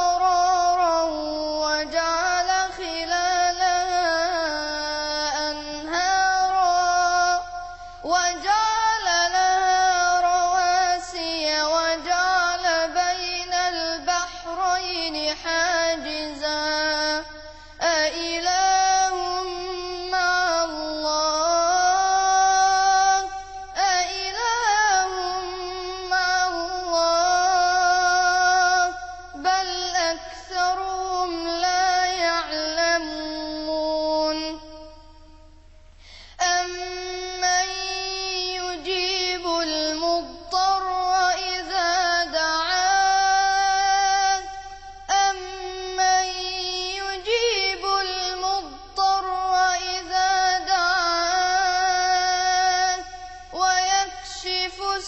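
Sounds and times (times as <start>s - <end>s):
person chanting melodically: 0.0s - 35.5s, 36.4s - 55.0s.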